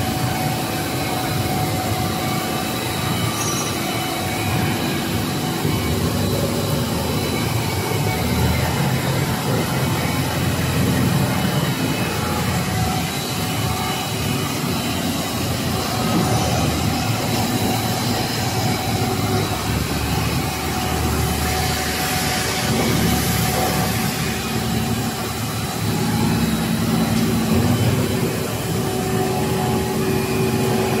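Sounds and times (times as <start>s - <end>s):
faint constant whines: 0.0s - 31.0s
machine motors and fans humming: 0.0s - 31.0s.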